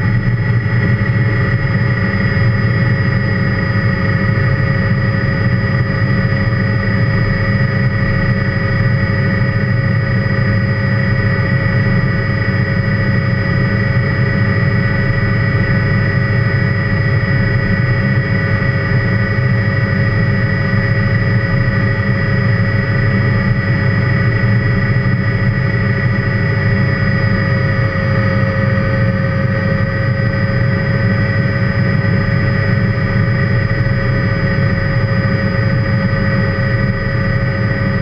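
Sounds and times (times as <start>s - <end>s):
helicopter engine and rotor drone: 0.0s - 38.0s.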